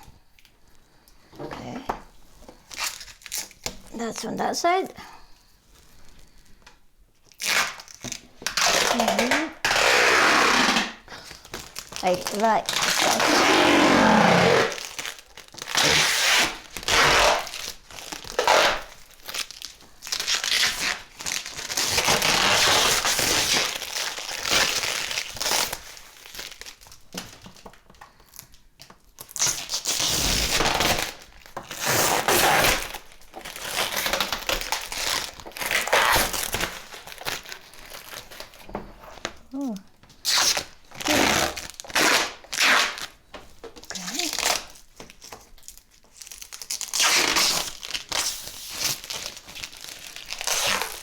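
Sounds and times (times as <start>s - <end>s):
plastic wrap crinkling and tearing: 2.4s - 4.9s, 5.7s - 51.0s.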